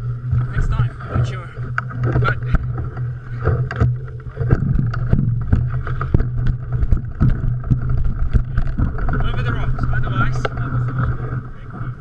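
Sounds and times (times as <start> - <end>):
bike clicks and rattles: 0.0 - 12.0
low rumble on microphone: 0.0 - 12.0.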